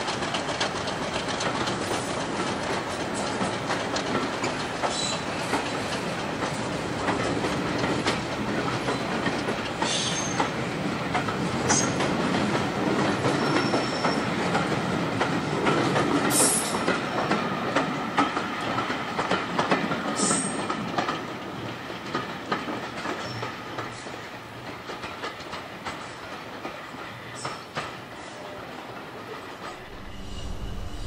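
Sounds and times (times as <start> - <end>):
train wheels clicking over rail joints: 0.0 - 28.1.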